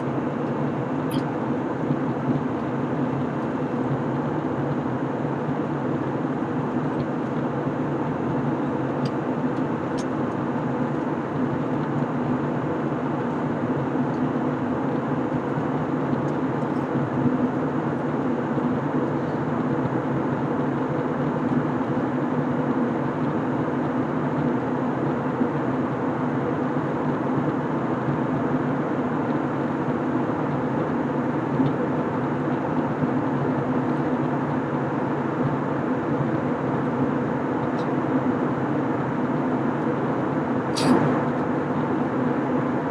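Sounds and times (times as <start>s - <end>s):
airplane cabin engine rush: 0.0s - 42.9s.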